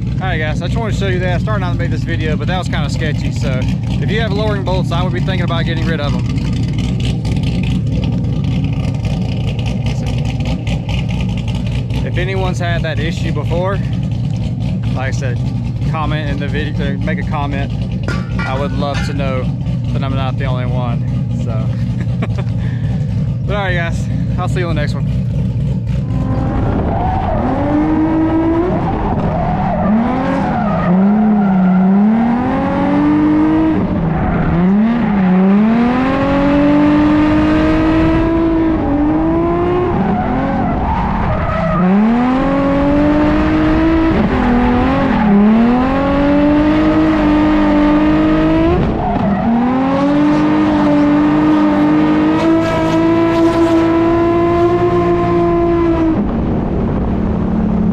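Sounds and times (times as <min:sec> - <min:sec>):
car engine revving hard: 0:00.0 - 0:57.9.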